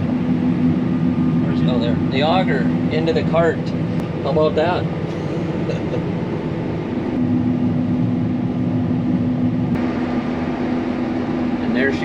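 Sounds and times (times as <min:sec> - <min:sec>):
combine harvester drone: 0:00.0 - 0:12.0
steady low hum: 0:00.0 - 0:12.0.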